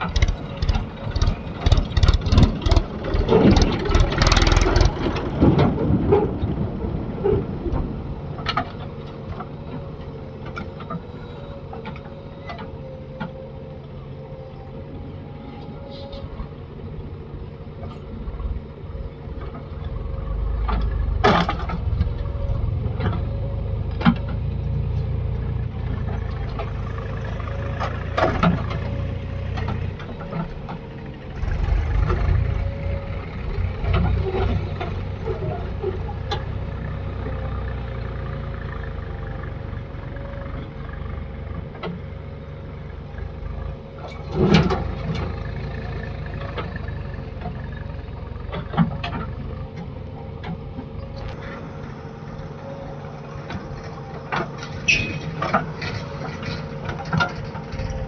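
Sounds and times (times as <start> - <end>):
backhoe diesel engine running: 0.0 - 58.0.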